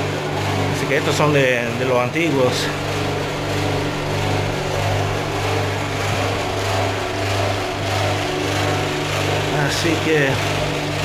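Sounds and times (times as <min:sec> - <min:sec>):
pulsing low drone: 0:00.0 - 0:11.0
refrigeration compressors humming: 0:00.0 - 0:11.0.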